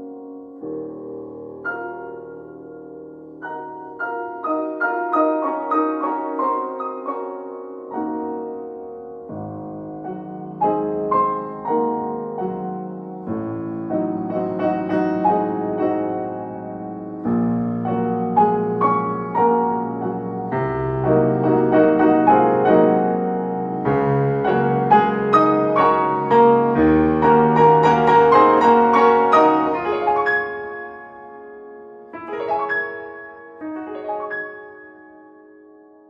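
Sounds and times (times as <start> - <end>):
gentle piano music: 0.0 - 36.0.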